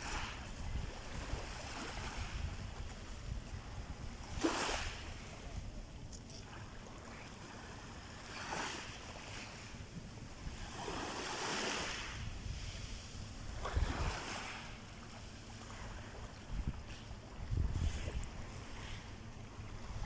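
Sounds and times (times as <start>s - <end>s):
sea waves washing in: 0.0s - 5.8s, 6.5s - 20.0s
wind rumble on microphone: 0.0s - 20.0s.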